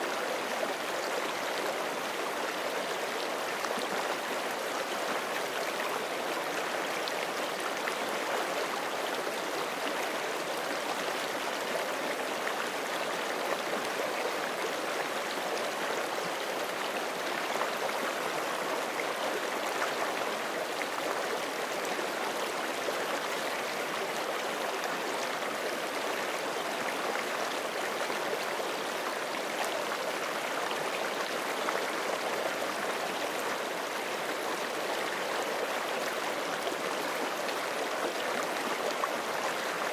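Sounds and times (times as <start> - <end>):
creek water babbling over stones: 0.0 - 39.9.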